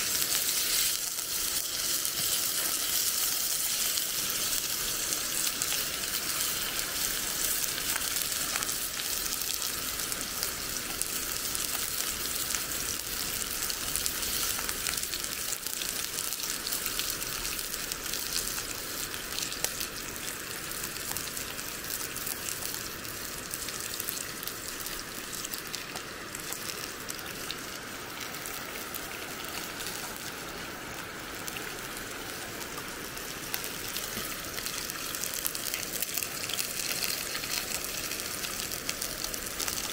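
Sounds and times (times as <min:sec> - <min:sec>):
food sizzling in cast iron: 0:00.0 - 0:39.9.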